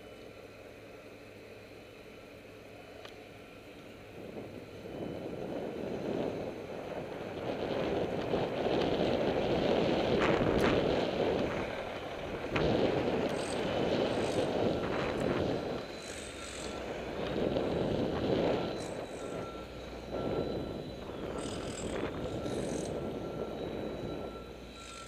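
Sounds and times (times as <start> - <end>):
street traffic: 0.0 - 25.0
wind on microphone: 4.2 - 24.6.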